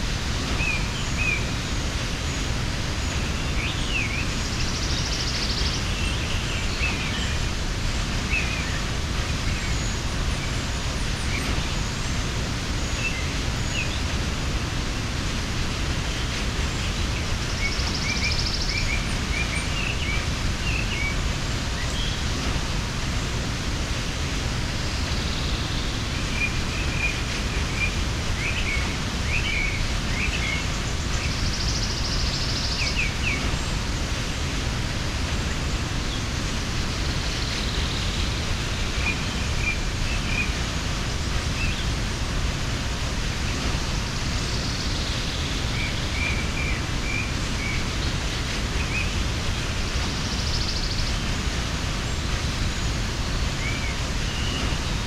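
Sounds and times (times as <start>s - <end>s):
waterfall rushing: 0.0s - 55.0s
small birds chirping and trilling: 0.1s - 55.0s.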